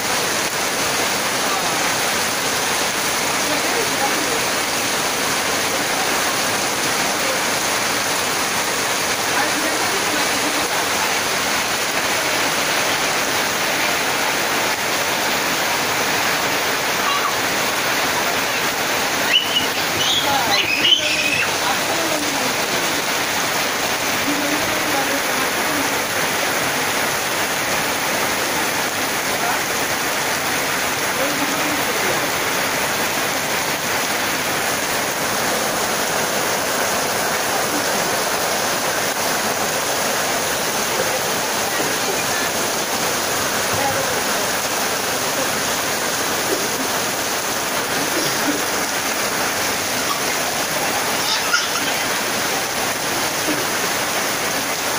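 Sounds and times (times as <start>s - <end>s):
heavy rain on a tin roof: 0.0s - 54.9s.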